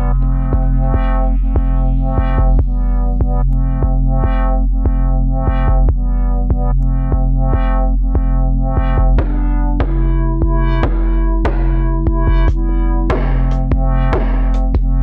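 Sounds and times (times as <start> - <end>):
electronic music with synthesizer: 0.0 - 15.0.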